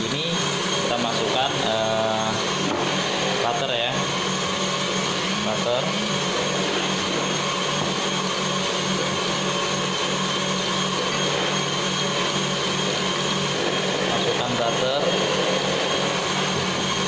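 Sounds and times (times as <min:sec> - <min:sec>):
stand mixer whirring: 0:00.0 - 0:17.0.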